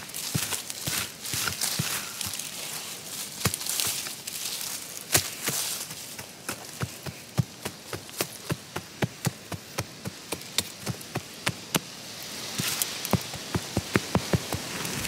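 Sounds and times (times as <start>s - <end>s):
loosened soil scraping: 0.0s - 8.5s, 10.2s - 15.0s.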